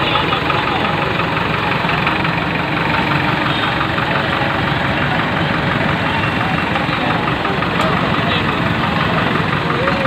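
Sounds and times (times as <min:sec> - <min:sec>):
diesel tractor engine idling: 0:00.0 - 0:10.0.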